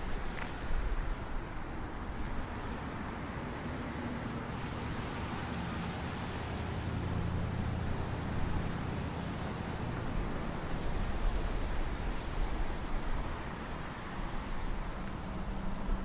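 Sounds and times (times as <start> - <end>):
low engine-like hum: 0.0 - 16.0
outdoor background rush: 0.0 - 16.0.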